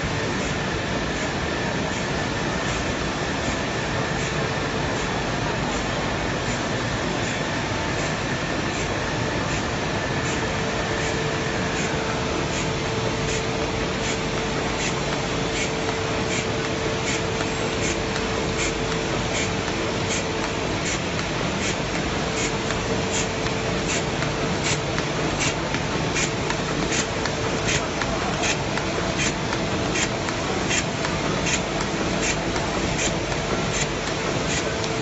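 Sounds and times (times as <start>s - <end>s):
machine hiss and hum: 0.0s - 35.0s.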